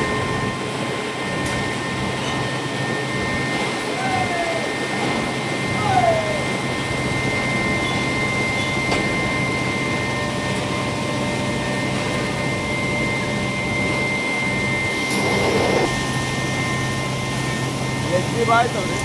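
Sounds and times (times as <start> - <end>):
industrial machinery hum and whine: 0.0 - 19.0.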